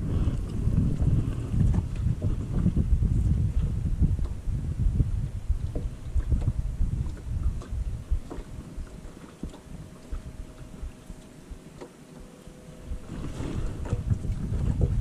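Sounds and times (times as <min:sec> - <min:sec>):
faint steady hum: 0:00.0 - 0:15.0
wind buffeting microphone: 0:00.0 - 0:15.0.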